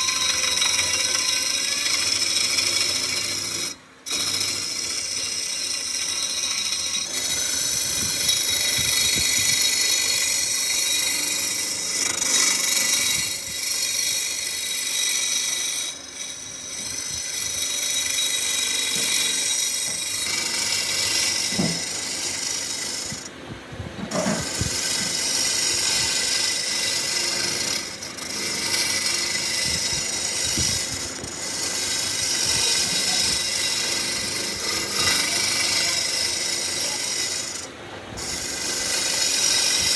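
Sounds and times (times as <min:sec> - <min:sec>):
power tool rasping wood: 0:00.0 - 0:23.4, 0:24.0 - 0:39.9.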